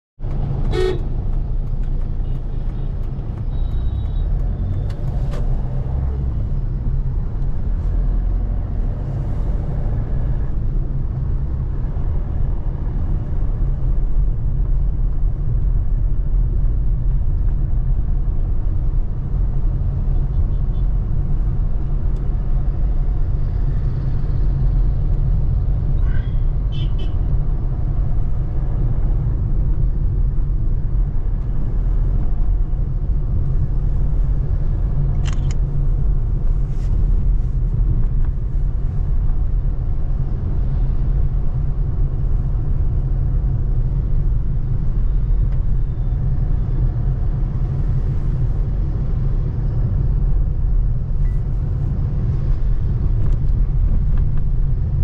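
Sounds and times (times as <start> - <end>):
car road and engine rumble: 0.2 - 55.0.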